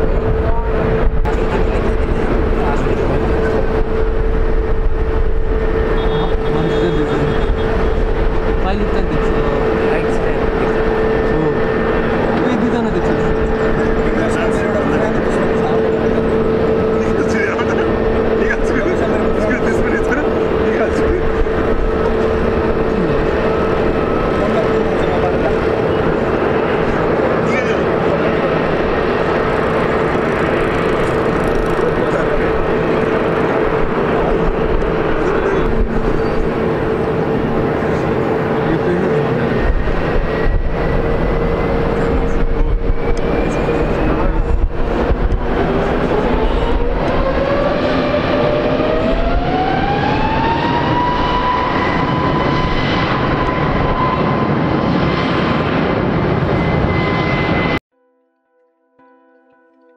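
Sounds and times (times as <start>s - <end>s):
jet engines idling: 0.0s - 57.8s.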